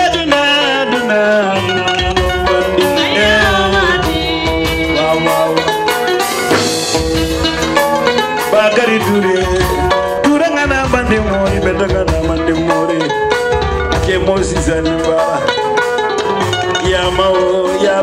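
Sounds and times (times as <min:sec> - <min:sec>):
person singing: 0:00.0 - 0:06.6, 0:08.4 - 0:13.4, 0:14.0 - 0:18.0
drum kit and percussion beat: 0:00.0 - 0:18.0
pitched melody instruments: 0:00.0 - 0:18.0.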